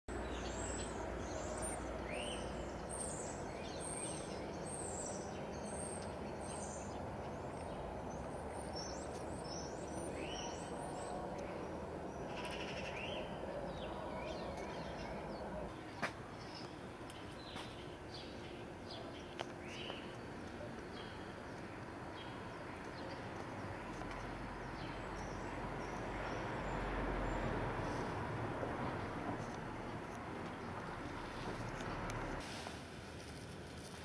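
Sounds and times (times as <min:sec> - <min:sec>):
small birds chirping: 0:00.1 - 0:28.2
outdoor background noise: 0:00.1 - 0:34.0.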